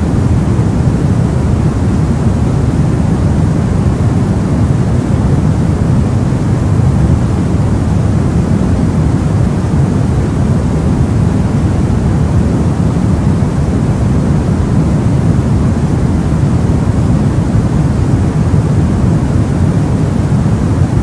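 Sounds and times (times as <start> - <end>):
deep white noise: 0.0 - 21.0.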